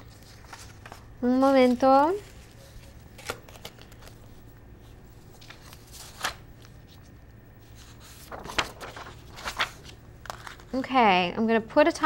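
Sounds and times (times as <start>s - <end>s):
paper rustling: 0.0s - 10.8s.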